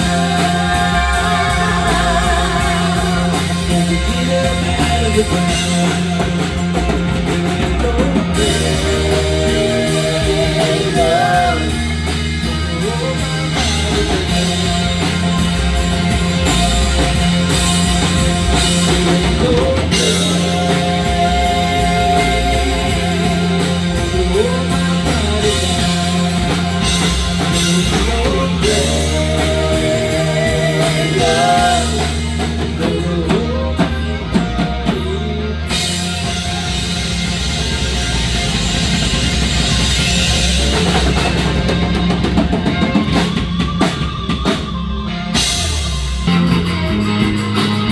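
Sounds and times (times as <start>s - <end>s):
bass: 0.0s - 47.9s
drum kit: 0.0s - 47.9s
electric guitar: 0.0s - 47.9s.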